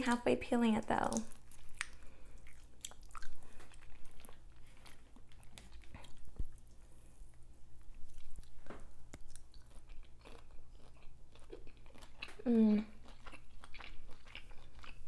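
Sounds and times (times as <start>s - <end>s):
wet chewing and biting: 1.1s - 15.0s.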